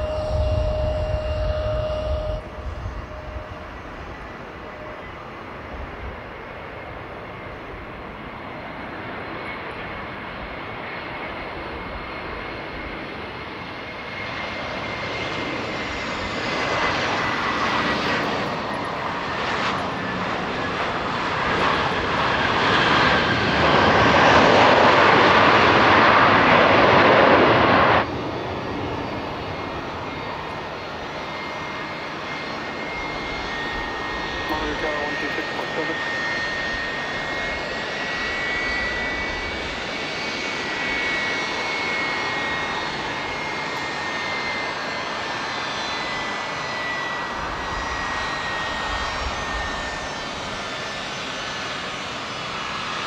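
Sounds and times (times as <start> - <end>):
jet aircraft engines passing: 0.0 - 53.0.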